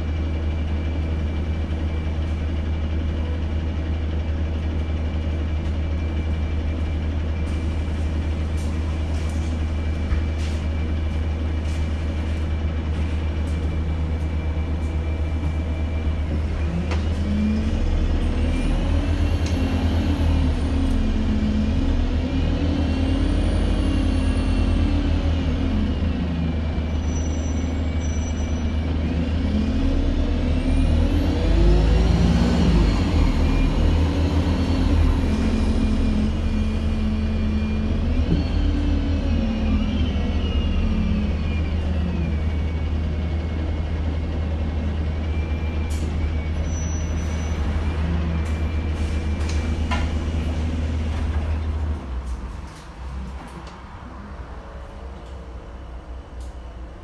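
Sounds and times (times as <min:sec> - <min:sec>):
bus engine and drivetrain whine: 0:00.0 - 0:57.0.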